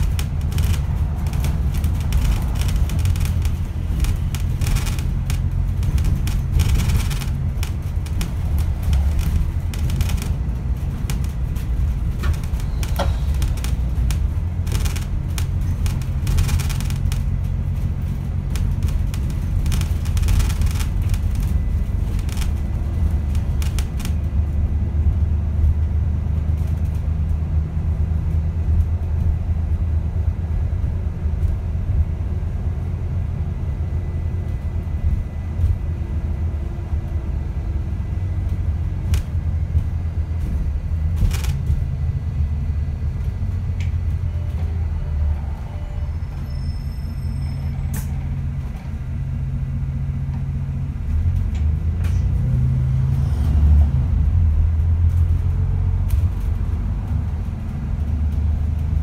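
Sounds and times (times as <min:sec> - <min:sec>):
bus rumble and road noise: 0:00.0 - 0:59.0.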